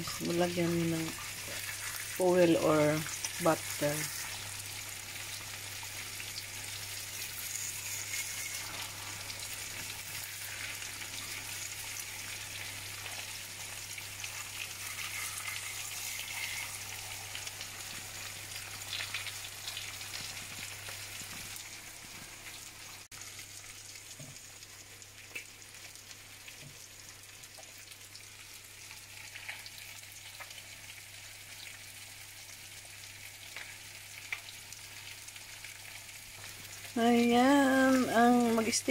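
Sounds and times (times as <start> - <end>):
eggs sizzling in hot oil: 0.0 - 38.9.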